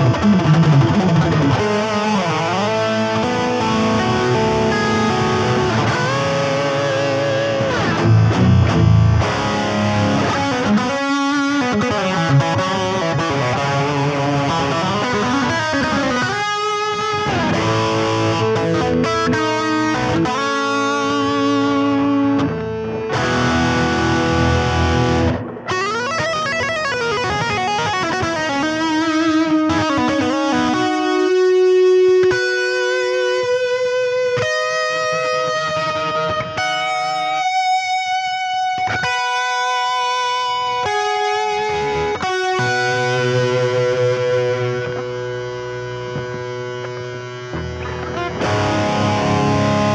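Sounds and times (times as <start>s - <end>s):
electric guitar with held chords: 0.0s - 49.9s.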